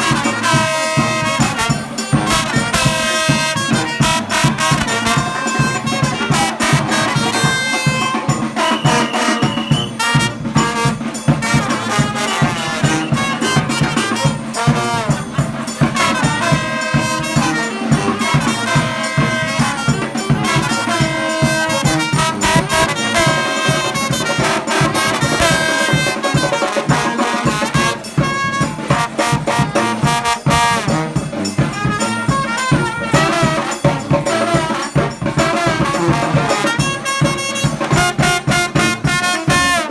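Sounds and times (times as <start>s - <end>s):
brass band playing: 0.0s - 39.9s
steady drum beat: 0.0s - 39.9s.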